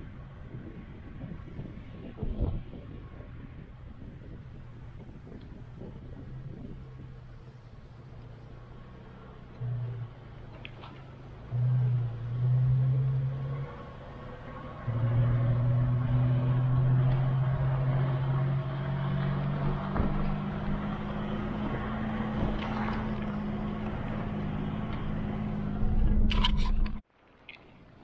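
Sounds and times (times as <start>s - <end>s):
vehicle engine hum: 0.0s - 27.1s.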